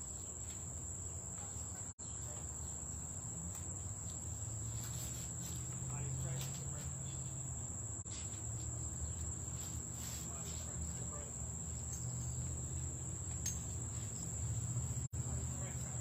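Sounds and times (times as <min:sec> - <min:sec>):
insect chorus drone: 0:00.0 - 0:16.0
low outdoor hum: 0:00.0 - 0:16.0.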